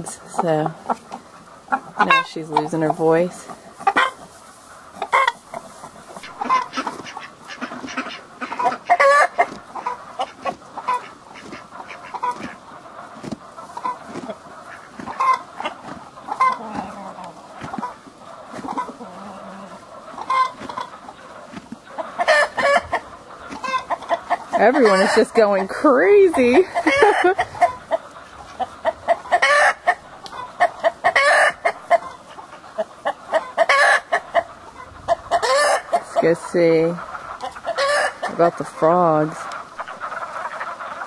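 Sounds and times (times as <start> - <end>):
hen clucking and cackling: 0.0 - 41.0.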